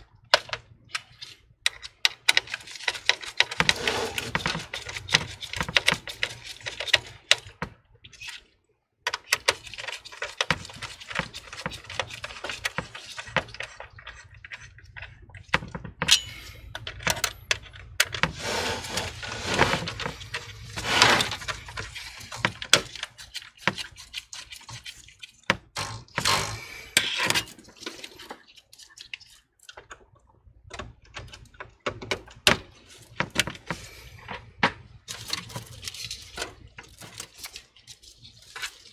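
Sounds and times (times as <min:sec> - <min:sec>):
hand handling computer parts: 0:00.2 - 0:25.7, 0:27.0 - 0:38.9.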